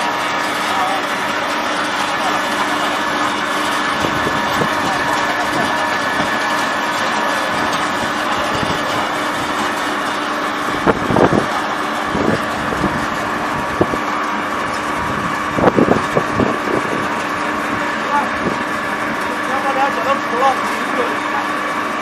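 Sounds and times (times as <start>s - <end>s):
machinery humming and whining: 0.0s - 22.0s.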